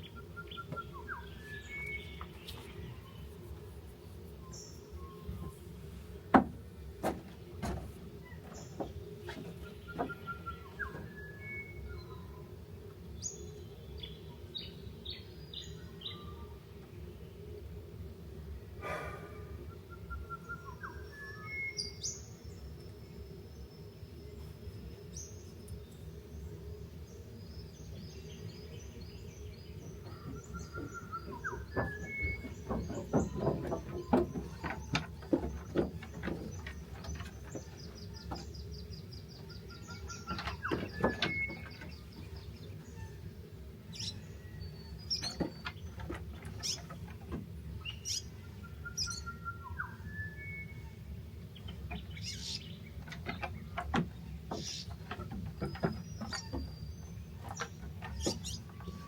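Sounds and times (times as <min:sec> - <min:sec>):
birds chirping: 0:00.0 - 0:17.5, 0:18.8 - 0:59.0
low outdoor rumble: 0:00.0 - 0:21.2, 0:21.8 - 0:59.0.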